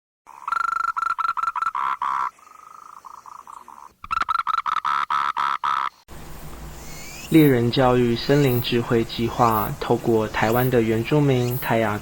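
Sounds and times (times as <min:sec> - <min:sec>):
frog calling: 0:00.3 - 0:06.0, 0:06.8 - 0:11.9.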